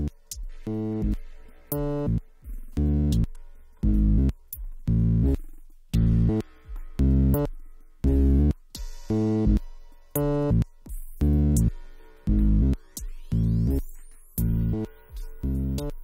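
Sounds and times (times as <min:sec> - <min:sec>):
synthesizer bass notes: 0:00.0 - 0:16.0.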